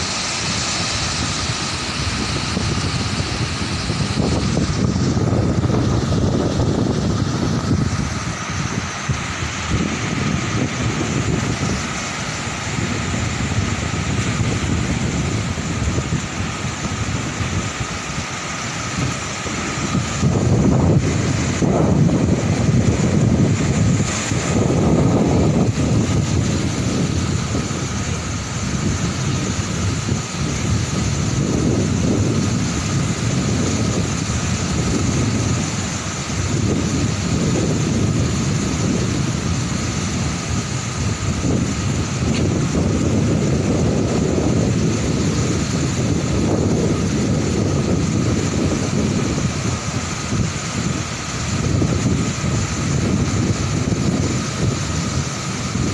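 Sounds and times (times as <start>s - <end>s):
waves crashing on beach: 0.0s - 55.9s
wind on microphone: 0.0s - 55.9s.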